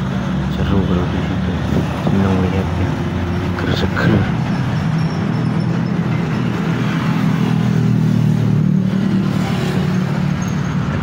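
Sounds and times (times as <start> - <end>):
heavy road traffic: 0.0 - 11.0
truck and car engines idling: 0.0 - 11.0.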